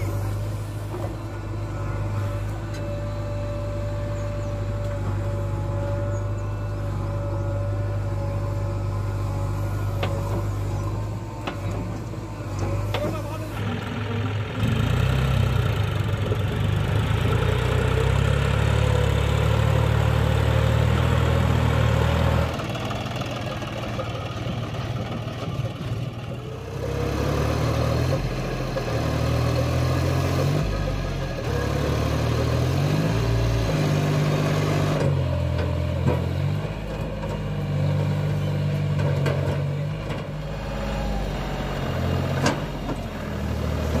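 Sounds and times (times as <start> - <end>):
tractor diesel engine revving: 0.0 - 44.0.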